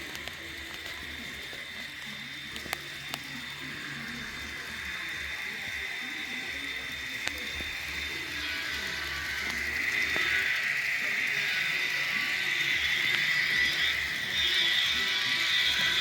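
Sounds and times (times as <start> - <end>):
model train motors whining: 0.0 - 16.0.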